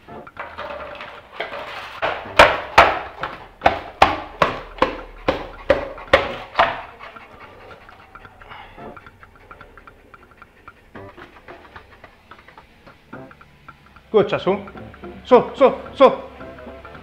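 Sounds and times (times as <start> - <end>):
dog panting: 0.5 - 17.0.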